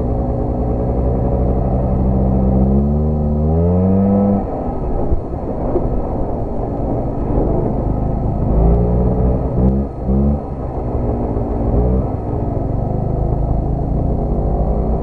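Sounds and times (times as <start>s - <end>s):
quad bike engine revving: 0.0s - 5.0s, 7.3s - 15.0s
rumble of riding dirt trail: 0.0s - 15.0s.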